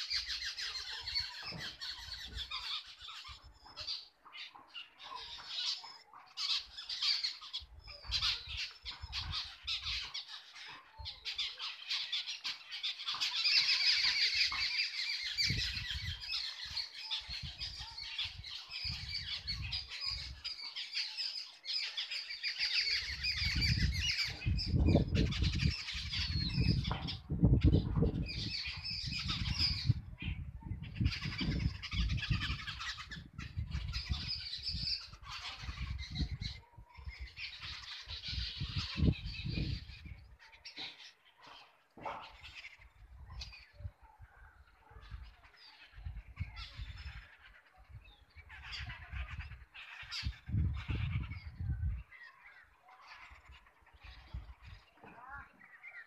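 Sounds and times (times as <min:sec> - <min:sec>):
flock of birds calling: 0:00.0 - 0:56.0.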